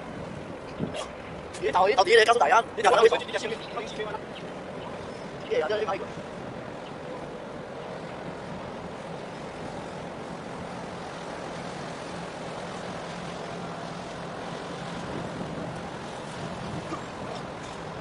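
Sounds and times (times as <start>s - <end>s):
ship engine hum: 0.0s - 18.0s
water noise: 0.0s - 18.0s
wind: 0.0s - 18.0s.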